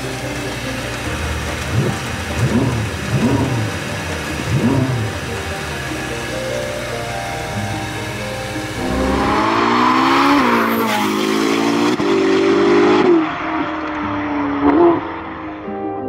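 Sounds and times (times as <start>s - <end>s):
sports car accelerating hard: 0.0s - 15.7s.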